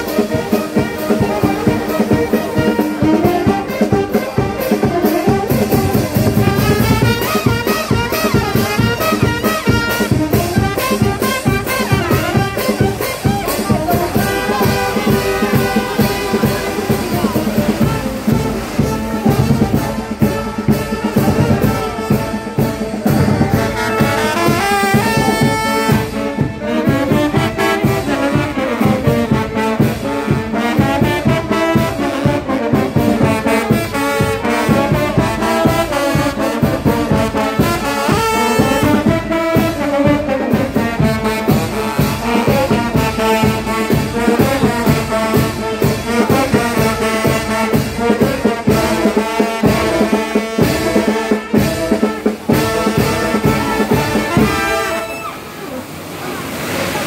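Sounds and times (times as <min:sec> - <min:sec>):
brass band playing: 0:00.0 - 0:57.0.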